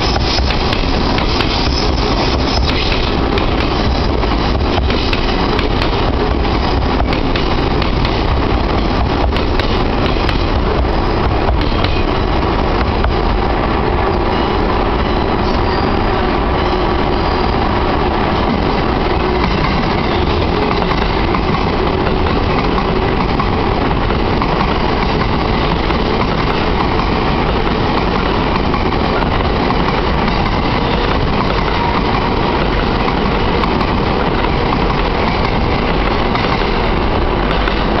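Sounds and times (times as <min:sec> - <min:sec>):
electric train running past: 0:00.0 - 0:38.0.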